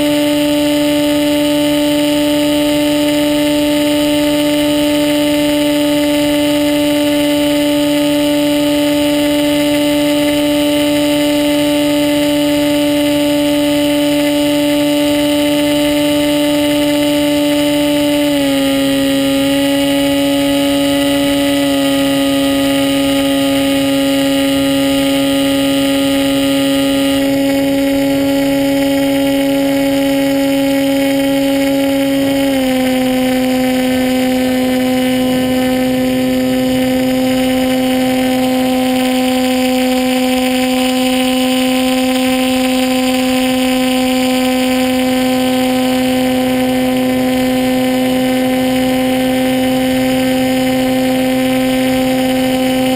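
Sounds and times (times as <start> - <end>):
model plane motor droning: 0.0 - 52.9.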